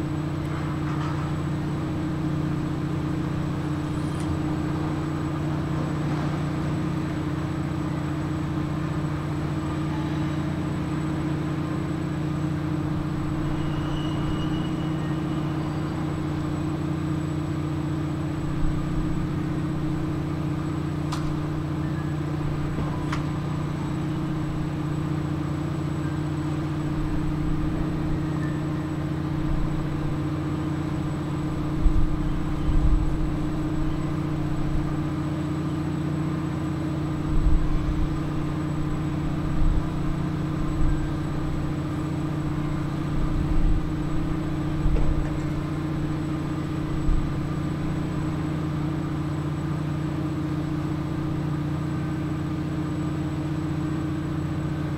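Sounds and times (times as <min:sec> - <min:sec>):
engine humming steadily: 0:00.0 - 0:54.9.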